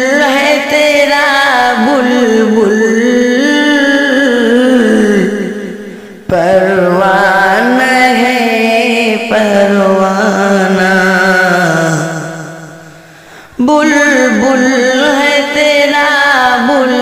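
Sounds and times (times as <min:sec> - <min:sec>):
person singing devotional song: 0:00.0 - 0:17.0.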